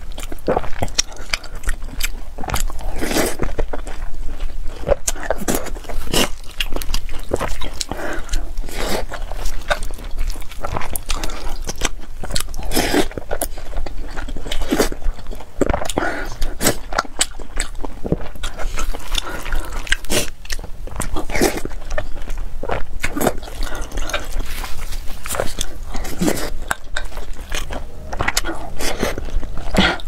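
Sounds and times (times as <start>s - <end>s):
close chewing and biting: 0.0s - 30.0s.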